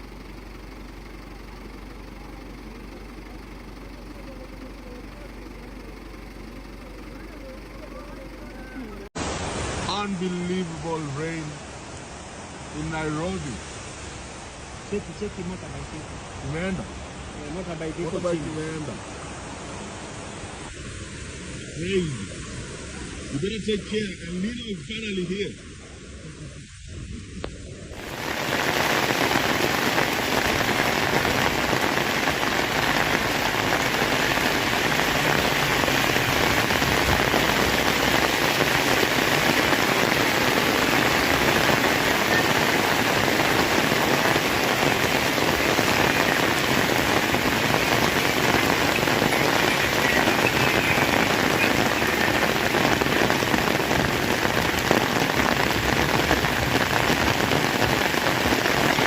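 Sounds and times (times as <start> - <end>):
heavy rain pouring: 0.0 - 25.4, 26.1 - 59.0.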